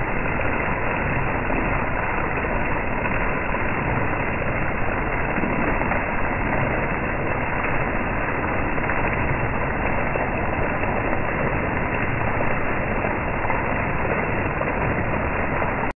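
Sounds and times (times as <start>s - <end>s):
heavy rain on street and awning: 0.0s - 15.9s.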